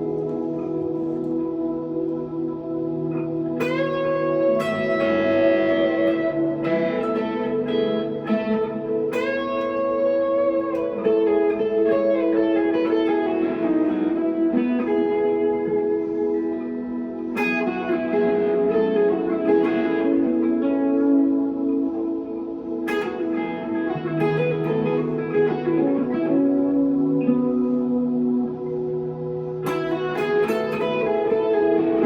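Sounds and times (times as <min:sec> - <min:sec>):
electric guitar chords ringing: 0:00.0 - 0:32.0.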